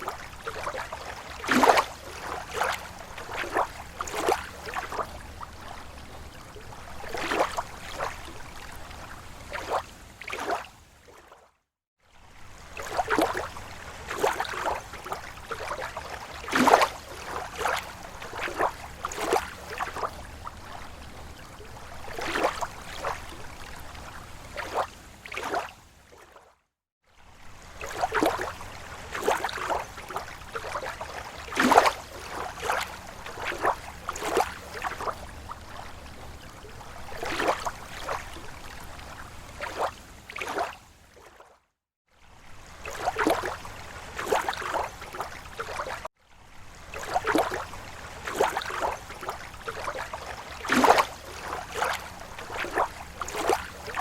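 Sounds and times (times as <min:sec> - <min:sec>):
waves lapping at shore: 0:00.0 - 0:54.0.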